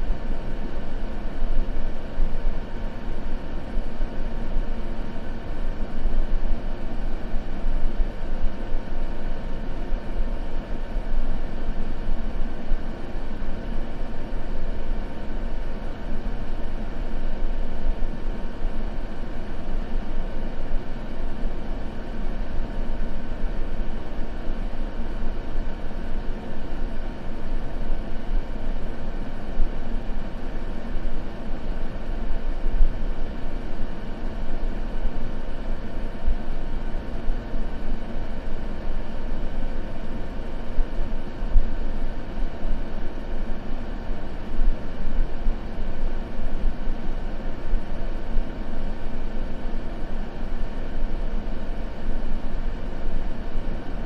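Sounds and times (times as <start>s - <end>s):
faint steady hums: 0.0s - 54.0s
steady white noise: 0.0s - 54.0s.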